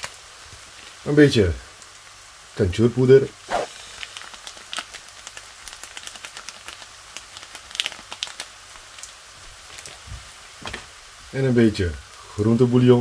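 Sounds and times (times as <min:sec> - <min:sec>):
oil crackling and popping in a pan: 0:00.0 - 0:13.0.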